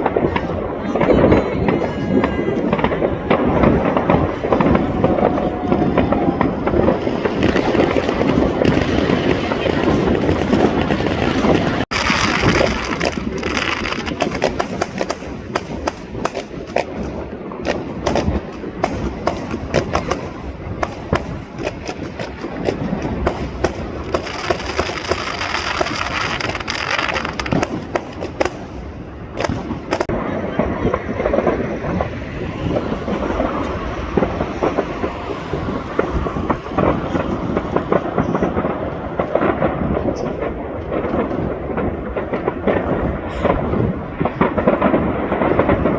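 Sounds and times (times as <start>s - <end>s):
background din: 0.0s - 44.8s
fireworks cracking and popping: 0.0s - 45.9s.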